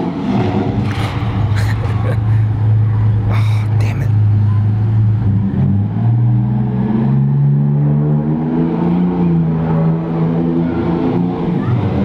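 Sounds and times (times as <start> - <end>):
diesel fire engine accelerating: 0.0 - 12.0.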